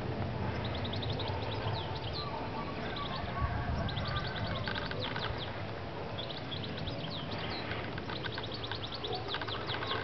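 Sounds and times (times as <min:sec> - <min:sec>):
small birds chirping: 0:00.2 - 0:10.0.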